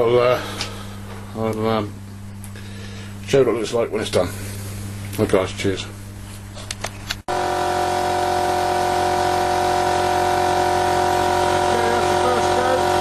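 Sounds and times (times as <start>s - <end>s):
machine motor hum: 0.0s - 13.0s.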